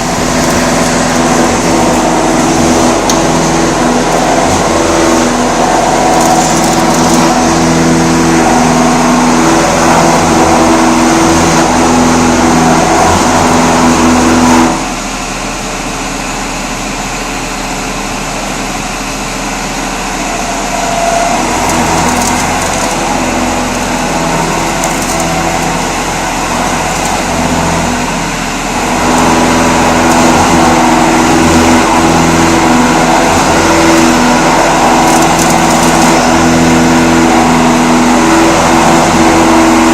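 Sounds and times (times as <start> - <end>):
milling machine droning hum: 0.0 - 39.9.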